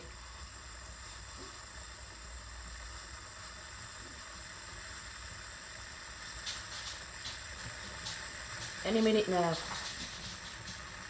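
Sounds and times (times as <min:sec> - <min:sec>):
steam hissing from pressure cooker: 0:00.0 - 0:11.0.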